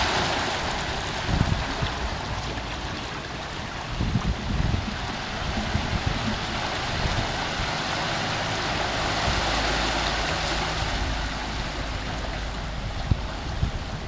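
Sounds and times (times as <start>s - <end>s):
sea surf washing over stones: 0.0s - 14.0s.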